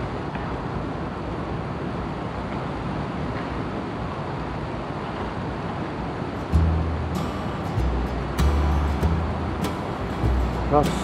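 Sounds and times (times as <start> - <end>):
river running over rocks: 0.0 - 11.0.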